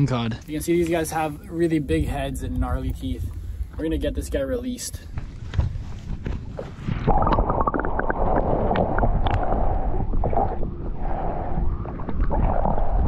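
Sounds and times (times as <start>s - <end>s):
muffled underwater rumbling and gurgling: 0.7s - 13.0s.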